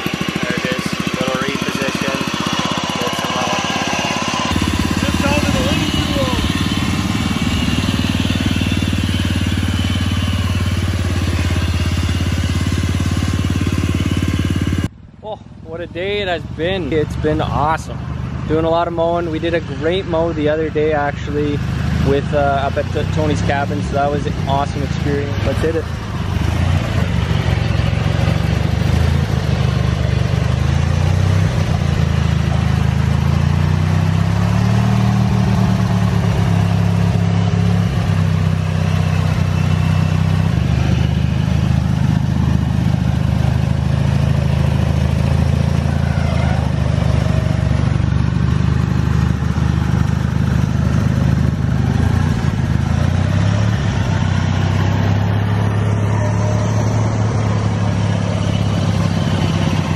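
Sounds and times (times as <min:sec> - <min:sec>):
small lawn tractor engines running: 0:00.0 - 0:59.9.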